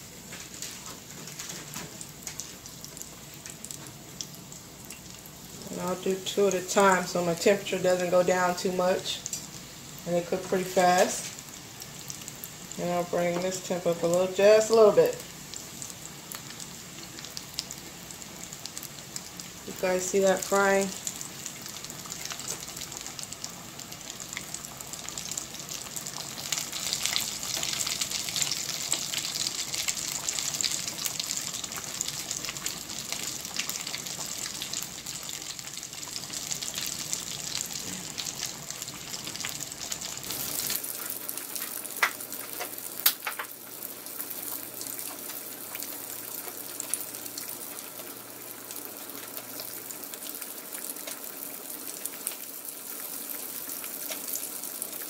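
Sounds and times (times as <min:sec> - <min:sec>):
oil sizzling and crackling: 0:00.0 - 0:55.0.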